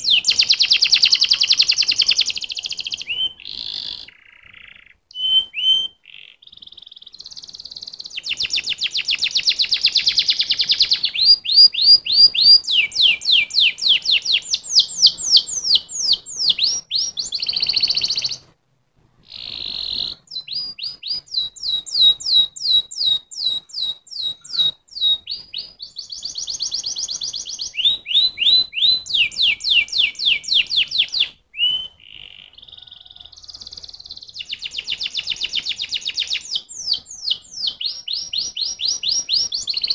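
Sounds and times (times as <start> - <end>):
canary singing trills: 0.0 - 18.5, 19.2 - 39.9.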